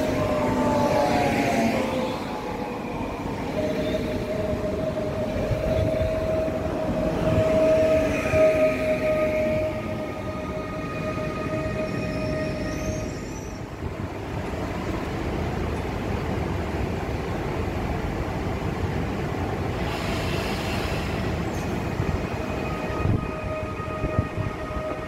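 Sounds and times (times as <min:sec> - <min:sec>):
train low rumble and hiss: 0:00.0 - 0:25.0.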